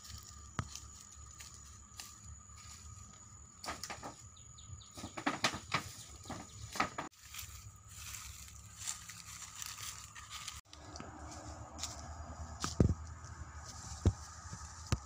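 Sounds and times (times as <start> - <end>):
footsteps crunching through dry leaves: 0.0 - 3.6, 5.8 - 15.0.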